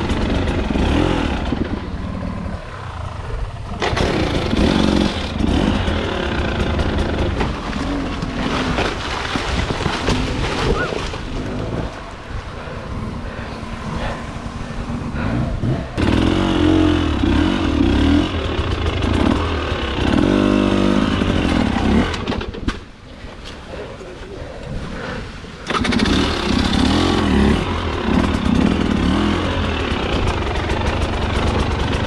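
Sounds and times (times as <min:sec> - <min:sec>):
motorcycle engine revving: 0:00.0 - 0:08.9, 0:10.0 - 0:22.6, 0:25.0 - 0:32.0.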